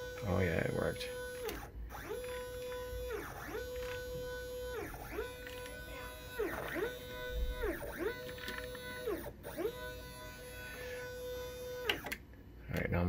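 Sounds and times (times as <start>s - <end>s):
stepper motor whining: 0.0s - 12.2s.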